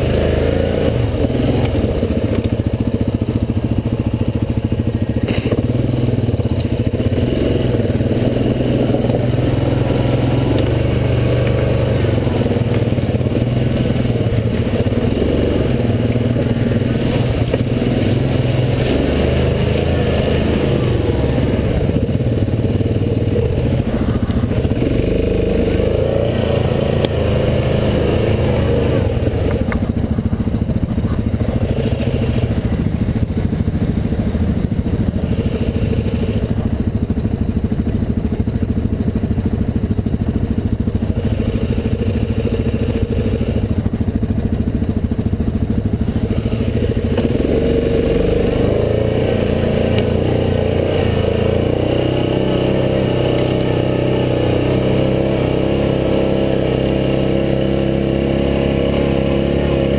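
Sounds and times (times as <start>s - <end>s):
atv engine under throttle: 0.0s - 59.9s.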